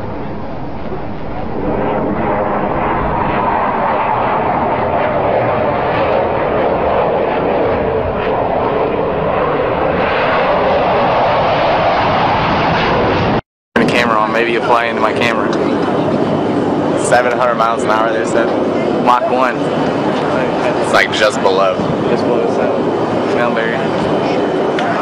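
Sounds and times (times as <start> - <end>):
fighter jet engine rush: 0.0 - 25.0.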